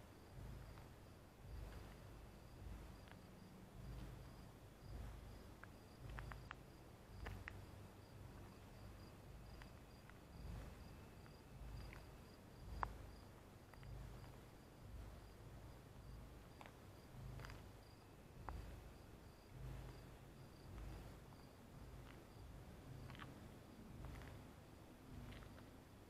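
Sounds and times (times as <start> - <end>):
cricket chirping: 0.0 - 26.0
low microphone rumbles: 0.0 - 26.0.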